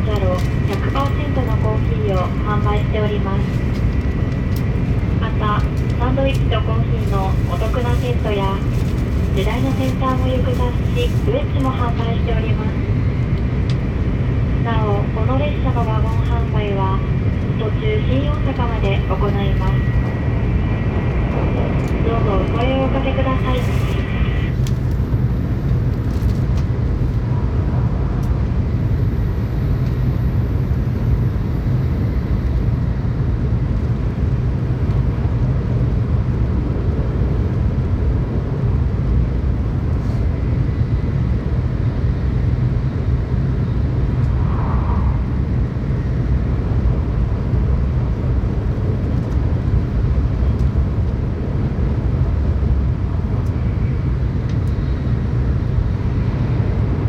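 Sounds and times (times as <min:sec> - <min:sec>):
train running noise from inside: 0:00.0 - 0:57.0.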